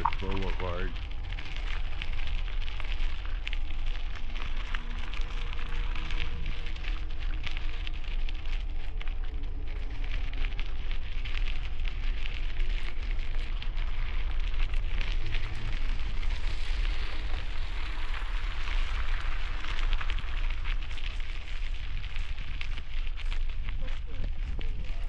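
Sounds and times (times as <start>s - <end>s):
bicycle tyres crunching gravel: 0.0s - 25.0s
wind rumbling on microphone: 0.0s - 25.0s.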